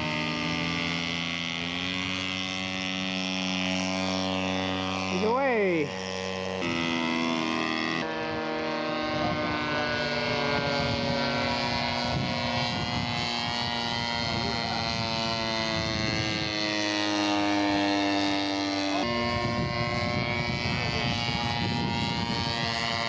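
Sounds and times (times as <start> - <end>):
model airplane engine and propeller: 0.0 - 23.0.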